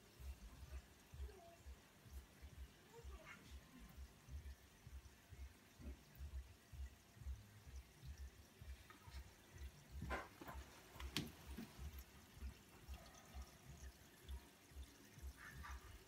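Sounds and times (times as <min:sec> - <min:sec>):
aquarium water trickling: 0:00.0 - 0:16.0
sharp drips or clicks: 0:00.0 - 0:16.0.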